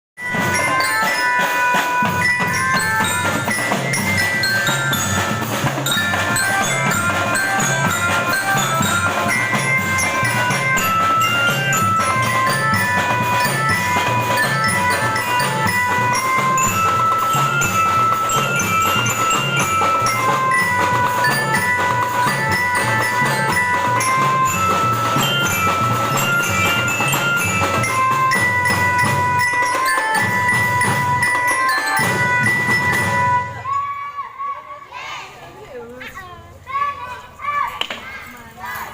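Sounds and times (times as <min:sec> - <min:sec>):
steady drum beat: 0:00.2 - 0:33.6
marching glockenspiel melody: 0:00.2 - 0:33.9.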